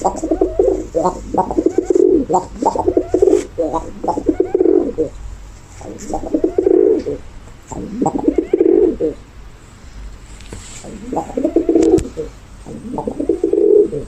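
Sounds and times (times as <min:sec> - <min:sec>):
pigeon cooing: 0:00.0 - 0:05.2, 0:05.8 - 0:09.2, 0:10.8 - 0:14.0.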